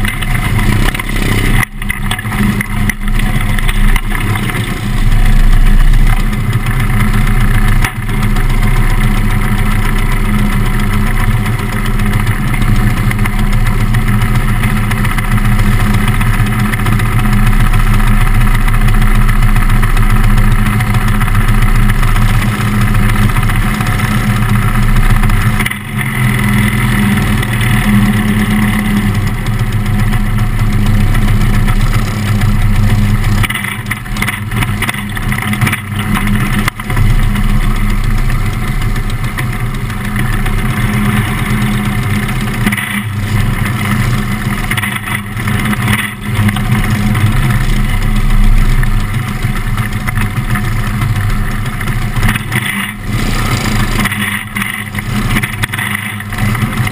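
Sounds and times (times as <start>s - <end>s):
other car engines: 0.0s - 56.9s
race car engine running: 0.0s - 56.9s.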